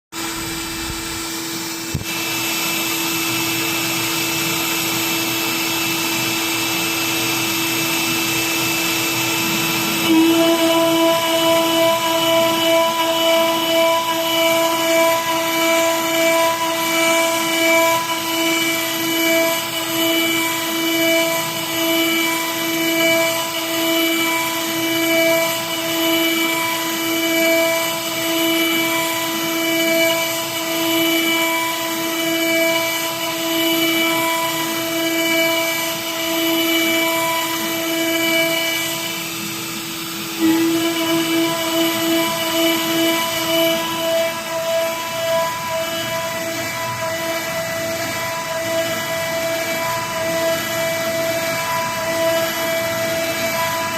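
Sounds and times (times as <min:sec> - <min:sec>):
wood router motor whine: 0:00.2 - 0:53.9.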